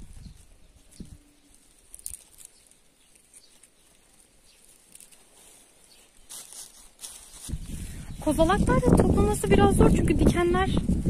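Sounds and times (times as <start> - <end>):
rustling and tapping pine cones: 0.0 - 11.0.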